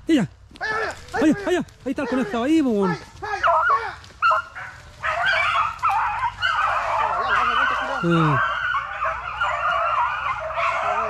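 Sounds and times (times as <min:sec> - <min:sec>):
dogs baying: 0:00.6 - 0:11.0.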